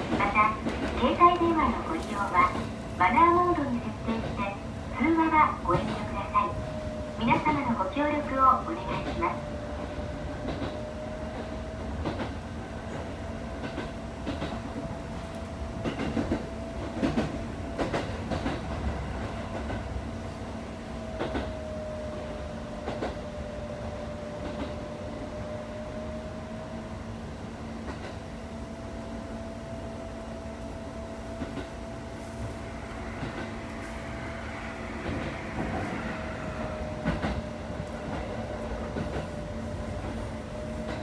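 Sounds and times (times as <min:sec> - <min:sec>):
electric train running hum: 0:00.0 - 0:41.0.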